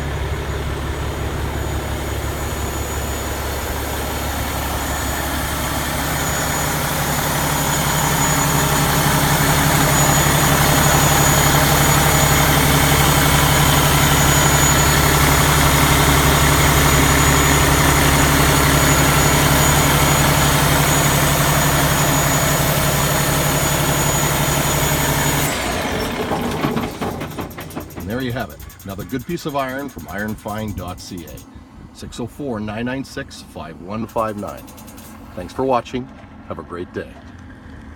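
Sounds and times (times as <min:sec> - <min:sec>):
diesel truck idling: 0:00.0 - 0:37.9.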